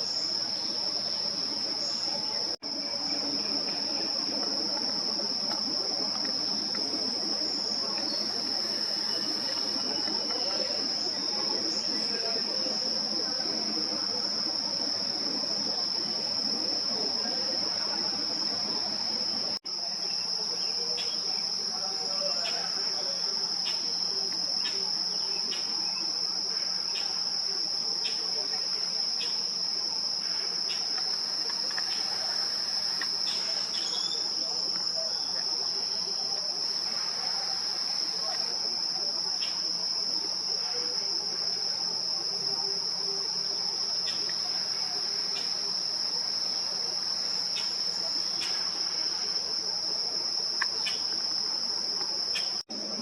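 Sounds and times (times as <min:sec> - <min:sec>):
insects trilling: 0:00.0 - 0:53.0.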